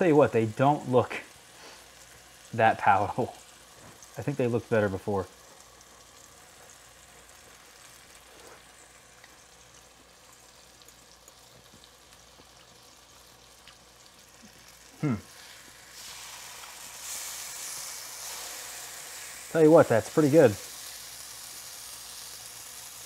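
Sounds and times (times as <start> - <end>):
fig sizzling in sugar: 0.0 - 23.0.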